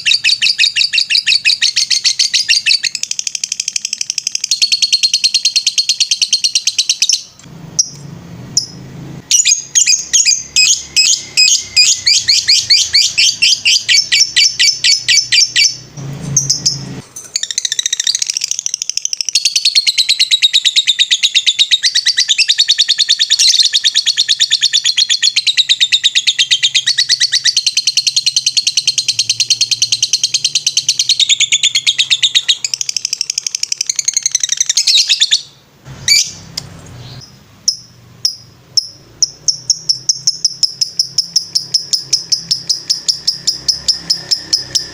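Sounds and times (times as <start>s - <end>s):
lovebird chattering trill: 0.0s - 8.0s, 8.6s - 44.9s.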